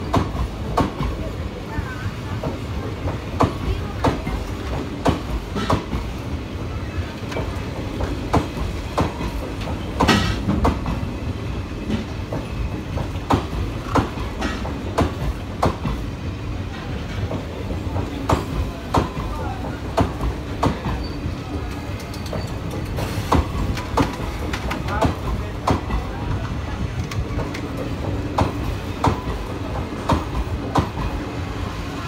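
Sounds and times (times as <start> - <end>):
train wheels clacking over rail joints: 0.0 - 1.3, 2.3 - 6.2, 7.3 - 11.2, 11.8 - 16.1, 16.7 - 31.3
low rumble of rolling coaches: 0.0 - 32.0.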